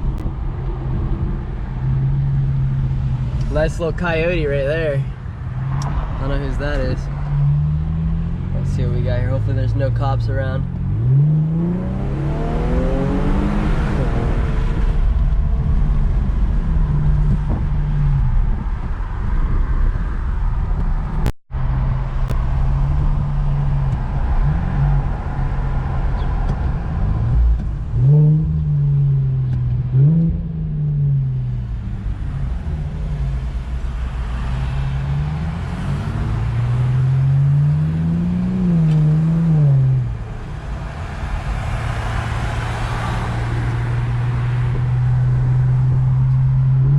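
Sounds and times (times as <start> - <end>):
car engine accelerating hard: 5.6 - 19.5, 21.0 - 46.9.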